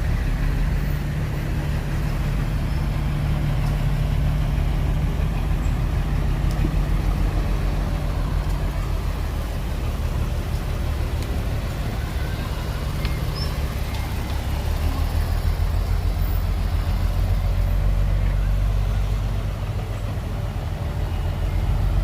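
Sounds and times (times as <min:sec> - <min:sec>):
diesel engine humming: 0:00.0 - 0:22.0.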